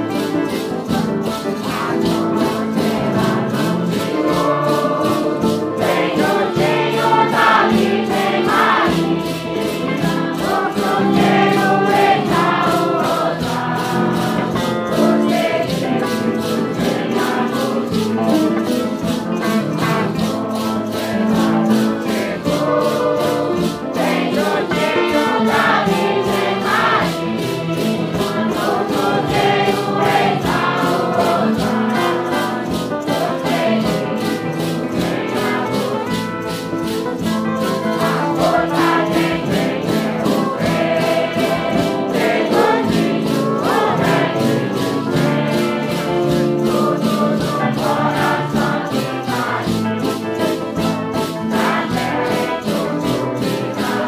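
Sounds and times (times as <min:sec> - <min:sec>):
group of voices singing: 0:00.0 - 0:54.0
steady percussion beat: 0:00.0 - 0:54.0.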